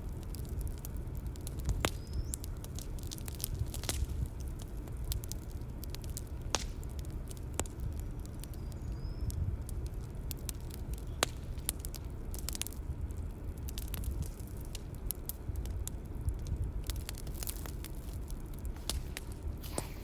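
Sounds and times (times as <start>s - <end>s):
bonfire crackling and popping: 0.0s - 20.0s
low rumble of burning: 0.0s - 20.0s.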